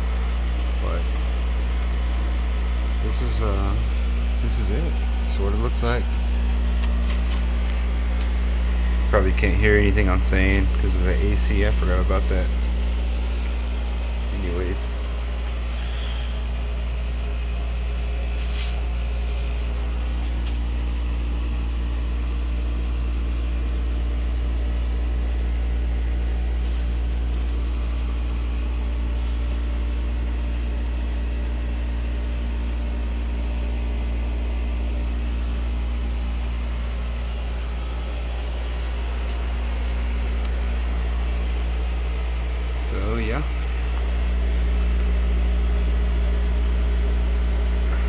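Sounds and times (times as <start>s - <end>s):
air conditioner humming: 0.0s - 48.0s.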